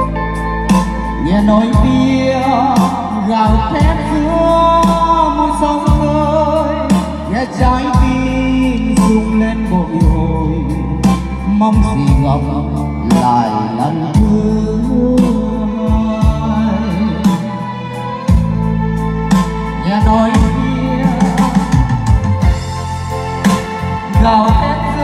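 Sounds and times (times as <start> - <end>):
person singing: 0.0 - 22.8, 23.5 - 25.0
heavy bass line: 0.0 - 25.0.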